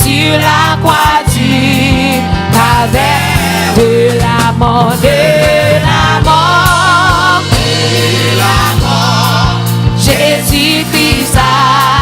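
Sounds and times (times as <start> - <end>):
band with steady beat and bass: 0.0 - 12.0
voices singing a hymn: 0.0 - 12.0.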